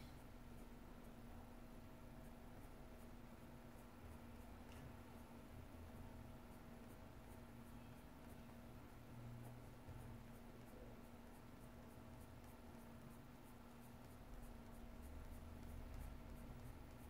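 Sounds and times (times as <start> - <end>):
low steady hum: 0.0 - 17.0
pencil scratching on paper: 2.3 - 17.0.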